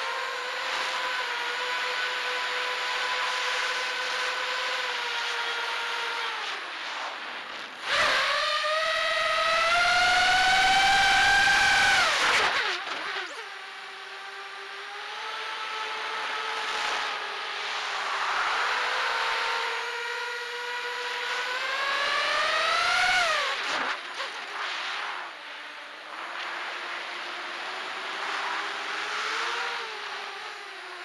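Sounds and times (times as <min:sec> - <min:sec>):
drone motors whining: 0:00.0 - 0:31.0.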